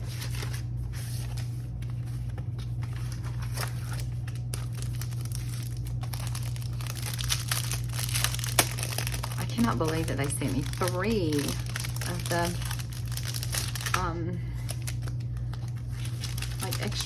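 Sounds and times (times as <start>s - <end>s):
packaging crinkling: 0.0s - 17.0s.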